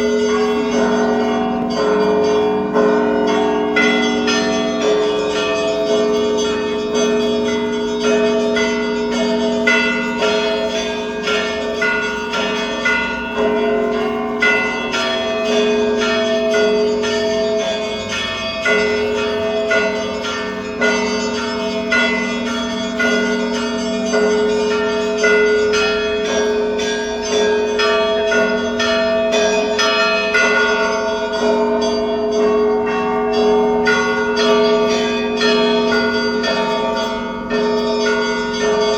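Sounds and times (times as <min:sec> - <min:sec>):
large bells ringing: 0:00.0 - 0:38.9.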